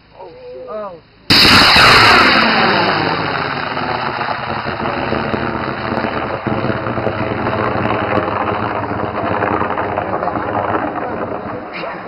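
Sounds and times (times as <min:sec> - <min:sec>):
rocket motor roaring: 0:01.3 - 0:12.0.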